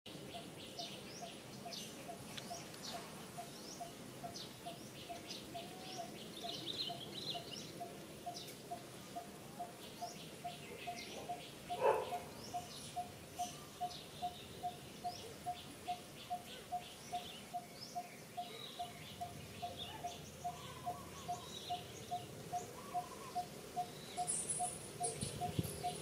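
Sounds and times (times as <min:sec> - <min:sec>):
birds chirping and trilling: 0:00.1 - 0:26.0.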